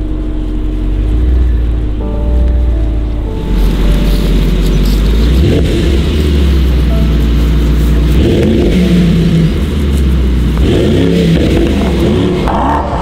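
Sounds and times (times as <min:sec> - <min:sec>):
car engine rumbling and revving: 0:00.0 - 0:13.0.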